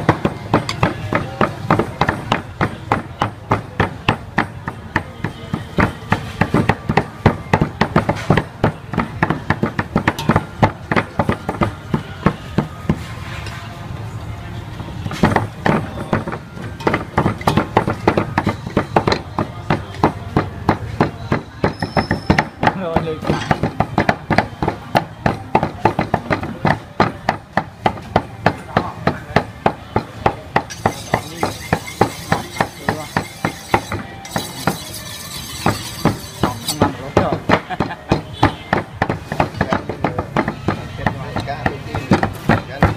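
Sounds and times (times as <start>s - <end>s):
cleavers chopping on wooden blocks: 0.0s - 13.1s, 15.0s - 42.9s.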